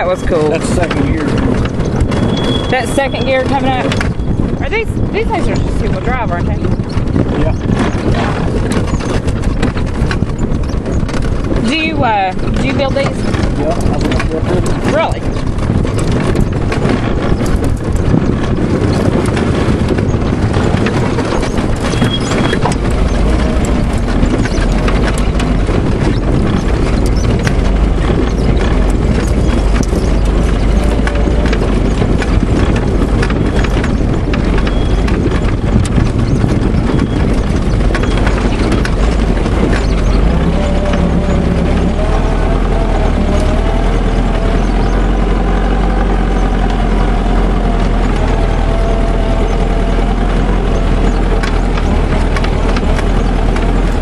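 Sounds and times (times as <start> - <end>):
engine hum: 0.0 - 54.0
frame rattling and knocking: 0.0 - 54.0.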